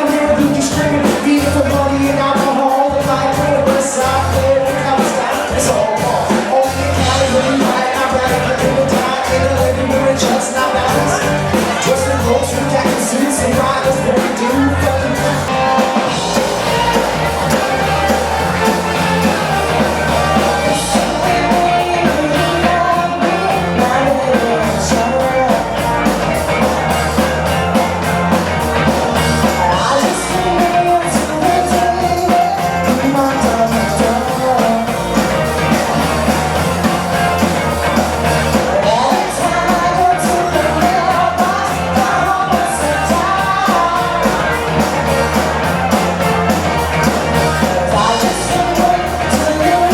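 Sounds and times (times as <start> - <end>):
live rock band playing: 0.0 - 49.9
person singing: 0.0 - 49.9.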